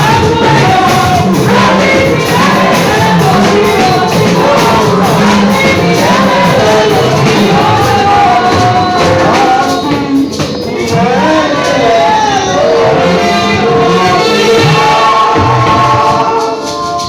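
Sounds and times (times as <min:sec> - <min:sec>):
people shouting along: 0:00.0 - 0:17.0
voices singing worship song: 0:00.0 - 0:17.0.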